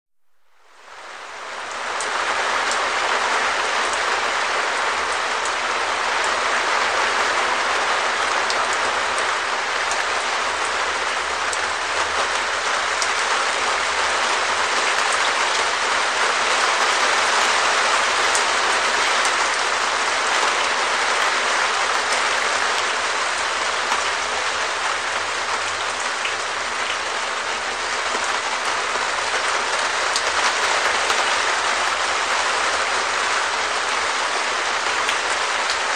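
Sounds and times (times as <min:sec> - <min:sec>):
rain on a plastic roof: 0:00.2 - 0:35.9.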